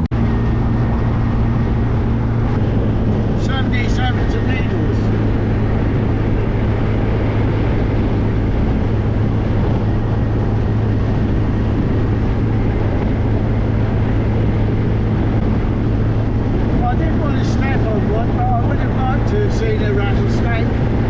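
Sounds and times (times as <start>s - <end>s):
car engine drone: 0.0s - 21.0s
road and wind noise: 0.0s - 21.0s.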